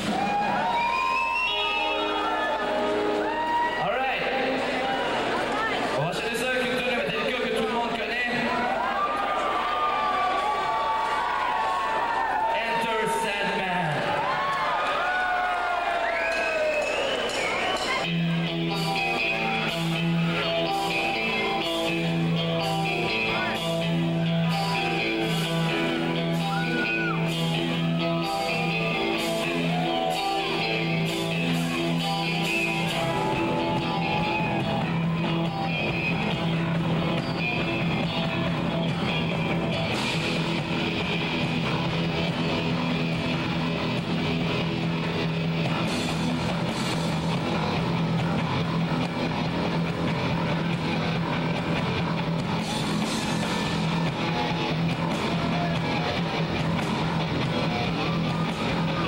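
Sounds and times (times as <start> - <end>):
bass guitar: 0.0 - 9.1, 16.7 - 59.0
drums: 0.0 - 59.0
electric guitars: 0.0 - 59.0.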